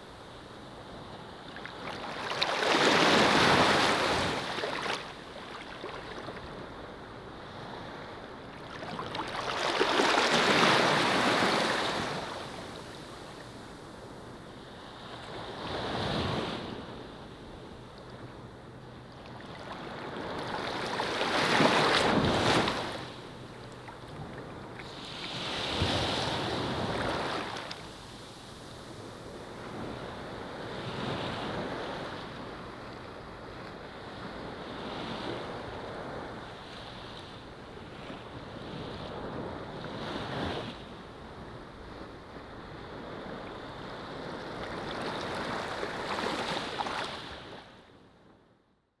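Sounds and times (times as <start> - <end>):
small waves washing on sand: 1.2 - 17.5, 19.3 - 47.8.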